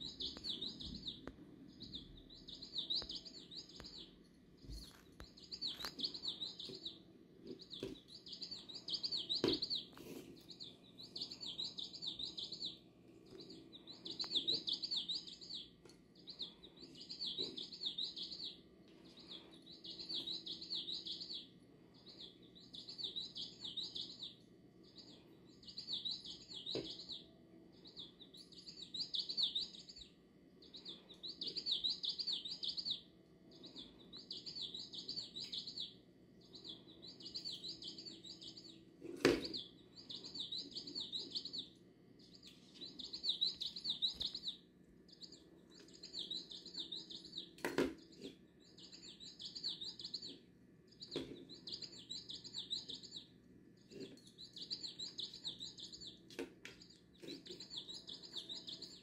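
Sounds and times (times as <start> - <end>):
recorded bird chirps: 0.0 - 59.0.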